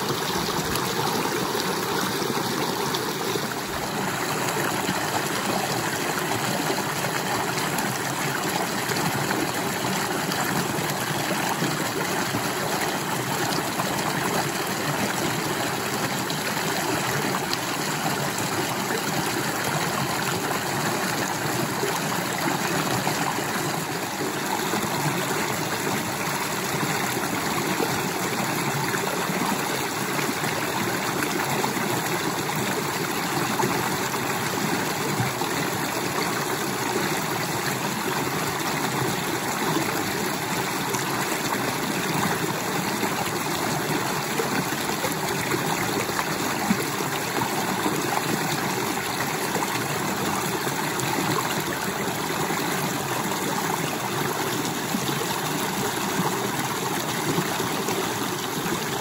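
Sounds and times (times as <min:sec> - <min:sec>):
creek water babbling over rocks: 0:00.0 - 0:59.0.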